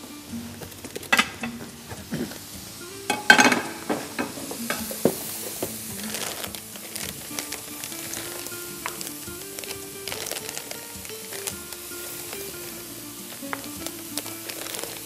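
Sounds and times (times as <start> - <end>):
food sizzling in frying pan: 0.0 - 15.0
soft background music: 0.0 - 15.0
utensils clattering against pans: 0.0 - 15.0.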